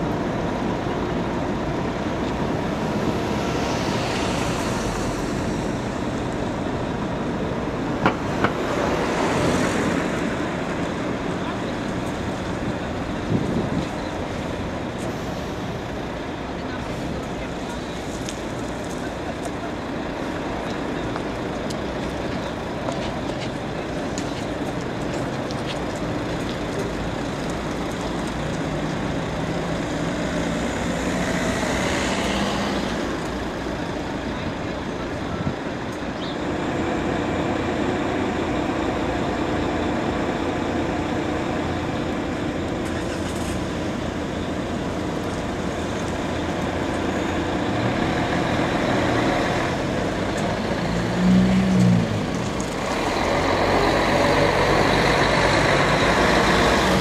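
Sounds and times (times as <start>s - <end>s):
diesel bus engine running: 0.0s - 57.0s
traffic hum: 0.0s - 57.0s.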